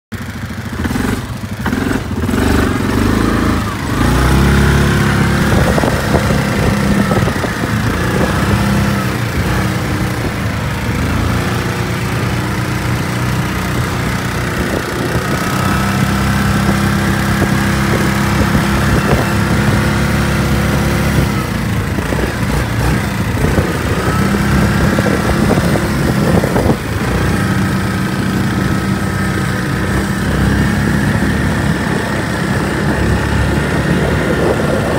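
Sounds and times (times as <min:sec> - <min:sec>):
atv engine revving: 0:00.1 - 0:34.9
whine: 0:01.1 - 0:34.9.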